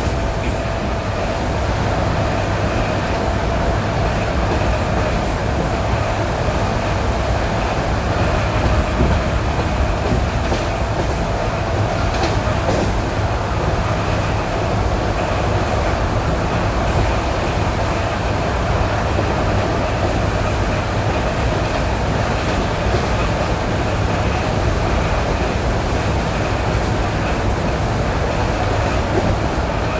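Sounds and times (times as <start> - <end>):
train rolling rumble: 0.0 - 29.9.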